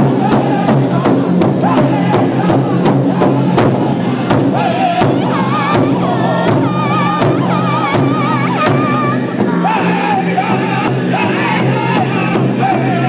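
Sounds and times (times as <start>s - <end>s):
large drum beating: 0.0s - 13.0s
people singing high: 0.0s - 13.0s.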